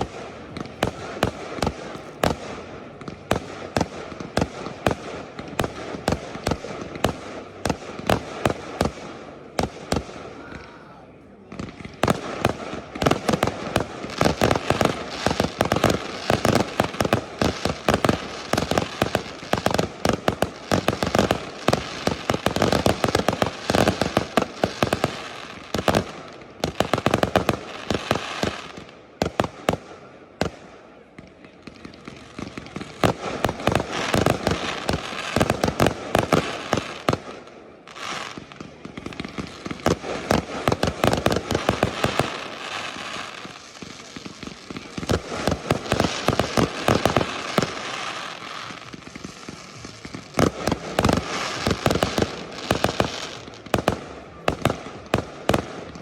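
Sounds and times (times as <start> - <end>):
firework bangs and crackle: 0.0 - 56.0.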